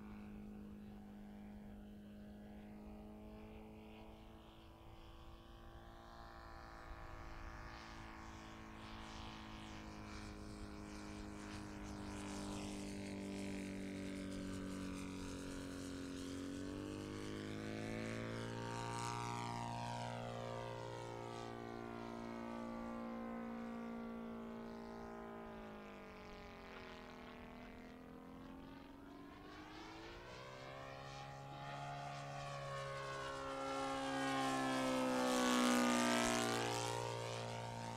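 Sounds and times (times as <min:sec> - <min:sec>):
model airplane engine and propeller: 0:00.0 - 0:37.9.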